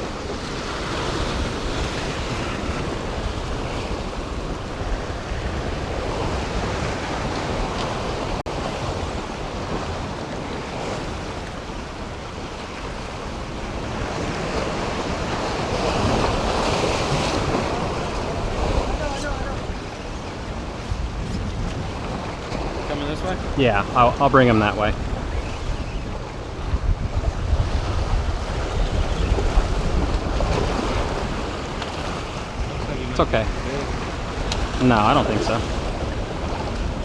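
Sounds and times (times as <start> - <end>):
surf washing against rocks: 0.0 - 37.0
wind buffeting microphone: 0.0 - 37.0.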